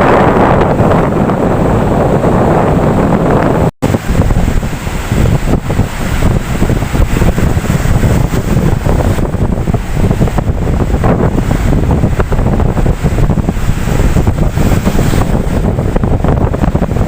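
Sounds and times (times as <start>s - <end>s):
ocean waves washing: 0.0s - 17.0s
wind buffeting microphone: 0.0s - 17.0s.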